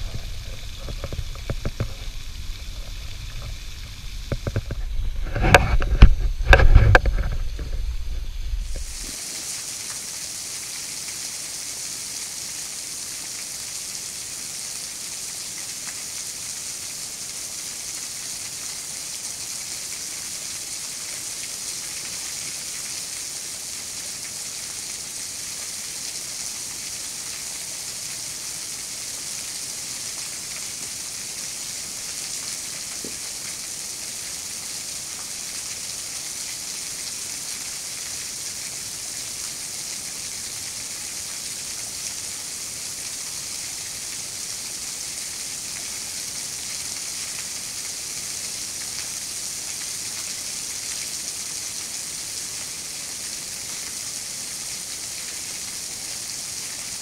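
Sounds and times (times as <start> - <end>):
waterfall trickling and splashing: 0.0 - 57.0.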